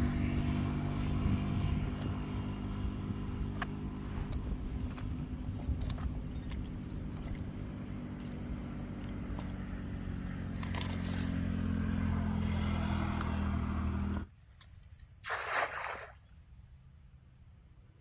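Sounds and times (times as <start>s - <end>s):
engine running with low hum: 0.0s - 14.8s.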